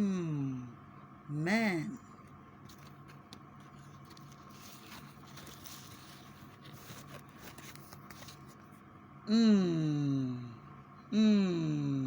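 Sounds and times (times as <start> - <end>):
faint steady hum and hiss: 0.0 - 12.0.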